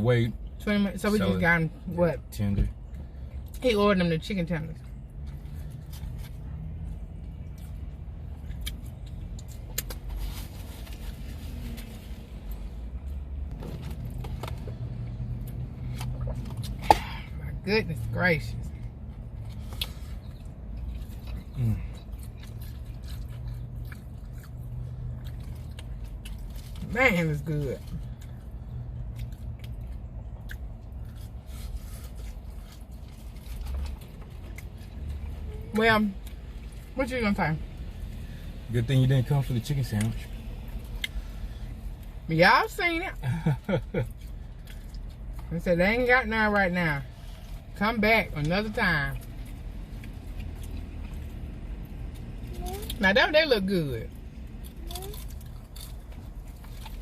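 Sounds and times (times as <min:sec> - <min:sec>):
car engine rumble from inside cabin: 0:00.0 - 0:57.0
chewing and crunching fried chicken: 0:04.5 - 0:17.5, 0:18.6 - 0:37.0, 0:37.6 - 0:42.3, 0:43.1 - 0:45.7, 0:47.0 - 0:47.8, 0:48.4 - 0:53.1, 0:54.1 - 0:57.0.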